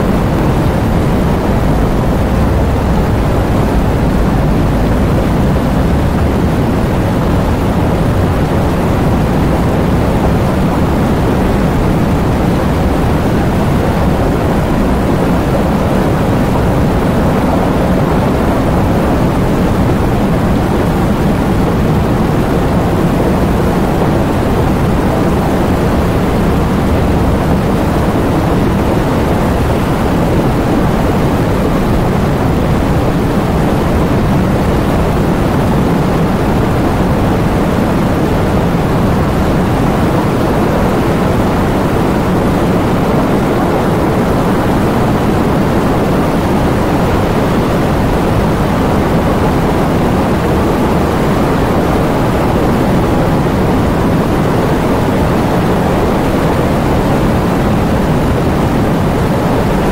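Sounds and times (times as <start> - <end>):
heavy rain driven by wind: 0.0 - 59.9.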